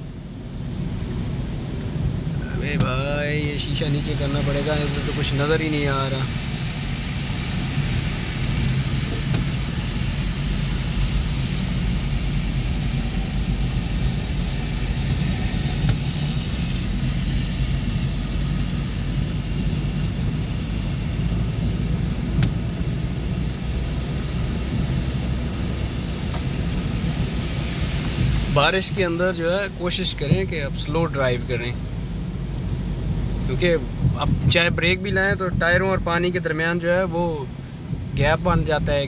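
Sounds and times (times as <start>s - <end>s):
car engine rumble: 0.0s - 39.0s
heavy rain on car: 0.0s - 39.0s
tyres on wet road: 0.0s - 39.0s.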